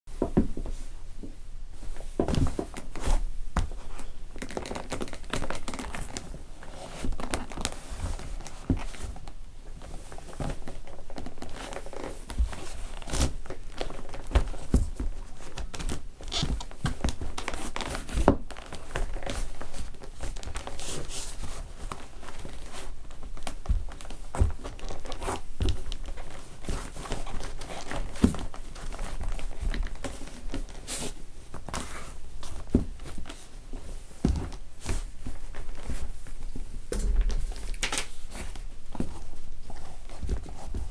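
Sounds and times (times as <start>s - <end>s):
leather crumpling and rustling: 2.3s - 40.9s.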